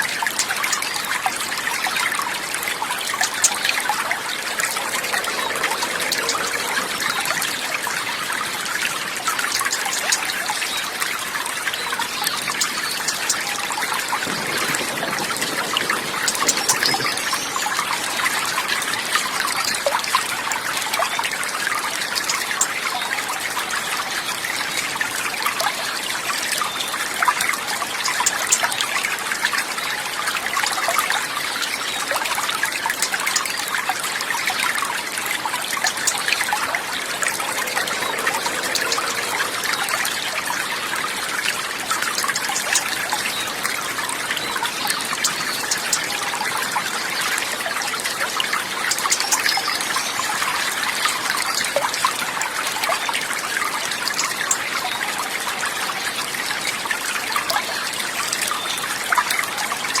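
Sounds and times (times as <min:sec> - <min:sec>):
water trickling over stones: 0:00.0 - 1:00.0.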